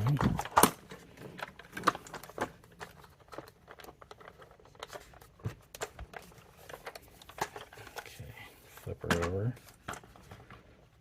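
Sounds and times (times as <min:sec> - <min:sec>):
plastic parts clicking and knocking: 0:00.0 - 0:10.8.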